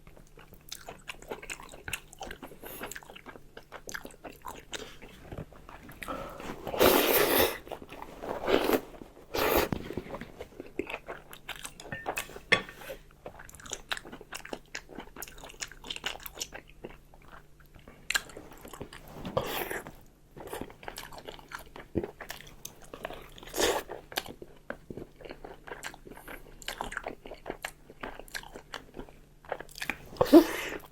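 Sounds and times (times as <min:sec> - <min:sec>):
person chewing: 0:00.0 - 0:30.9.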